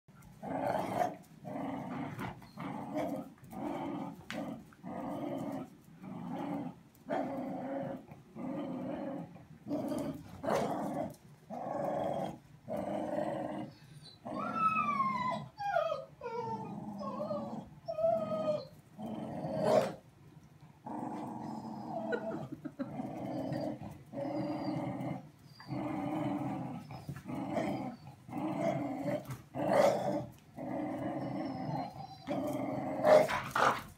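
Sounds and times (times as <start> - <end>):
dogs growling: 0.2 - 20.0, 20.7 - 33.9.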